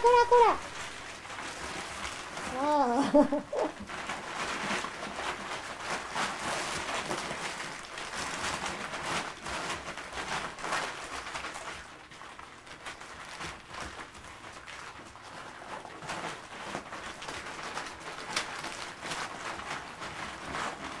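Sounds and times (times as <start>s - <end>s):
paper rustling and crinkling: 0.0s - 21.0s
puppies scratching and scuffling: 0.0s - 21.0s.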